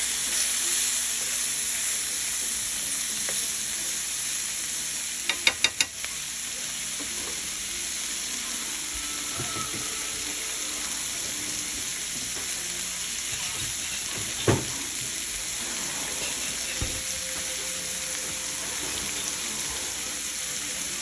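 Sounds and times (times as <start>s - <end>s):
sausage and onions sizzling in pan: 0.0s - 21.0s.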